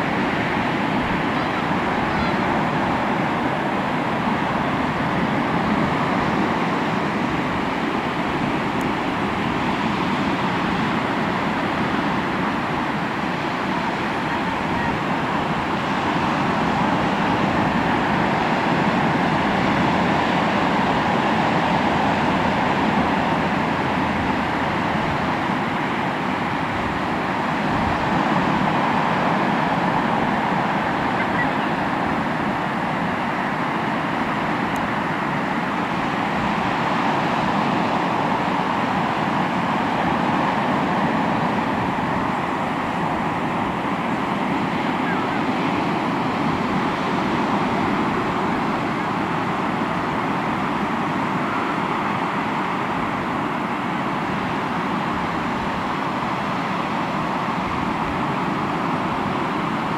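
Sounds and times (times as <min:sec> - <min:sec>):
sea waves washing onto shore: 0:00.0 - 0:59.9.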